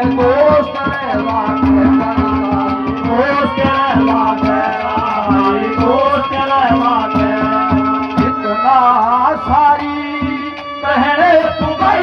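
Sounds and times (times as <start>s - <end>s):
hand drum strokes: 0.0s - 12.0s
wavering melodic line: 0.0s - 12.0s.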